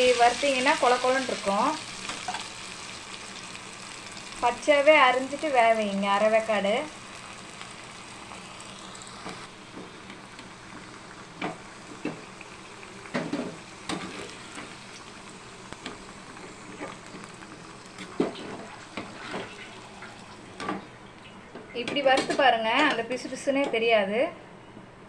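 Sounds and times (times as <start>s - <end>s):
slices frying in hot oil: 0.0s - 21.0s, 21.8s - 23.7s.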